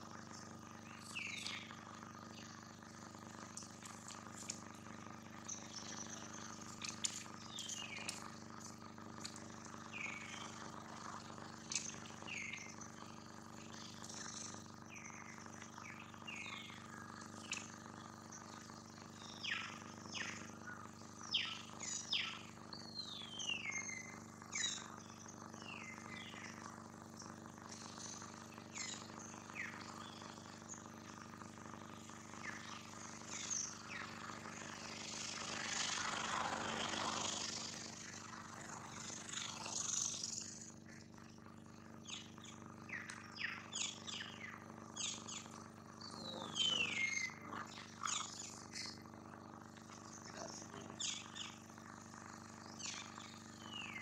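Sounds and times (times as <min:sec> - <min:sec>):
steady low hum: 0:00.0 - 0:54.0
birds chirping: 0:00.3 - 0:04.6, 0:05.3 - 0:17.8, 0:18.4 - 0:26.7, 0:27.7 - 0:30.8, 0:32.0 - 0:41.0, 0:42.0 - 0:51.6, 0:52.6 - 0:54.0.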